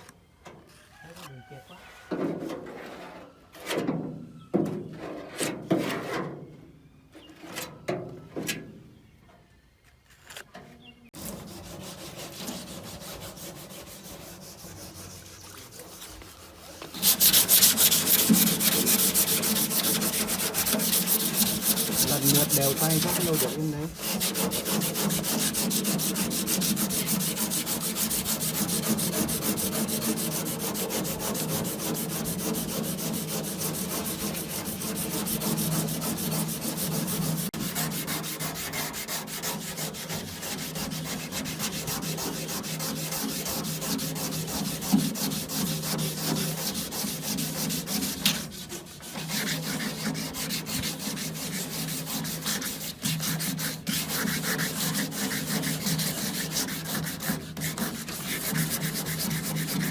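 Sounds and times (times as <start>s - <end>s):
sanding rusty steel: 11.2s - 59.9s.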